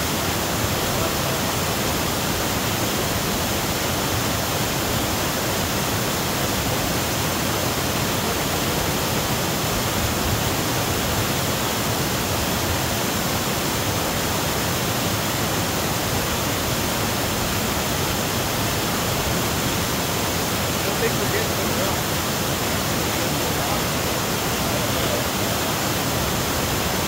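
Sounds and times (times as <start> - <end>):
waterfall rushing over boulders: 0.0 - 27.0.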